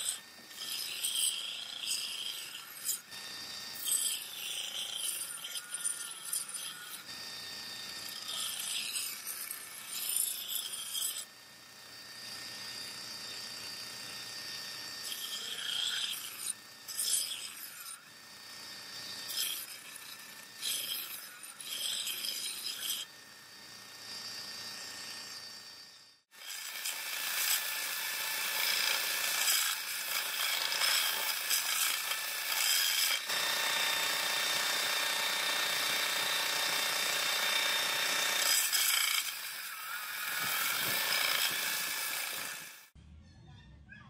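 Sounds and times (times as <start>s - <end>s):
belt grinder whine: 0.0s - 43.0s
blade grinding on belt: 0.0s - 43.0s.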